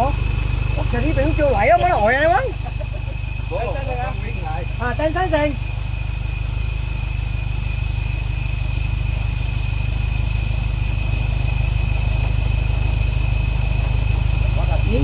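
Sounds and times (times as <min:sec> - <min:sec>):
high-pitched whine: 0:00.0 - 0:15.0
truck engine rumbling: 0:00.0 - 0:15.0.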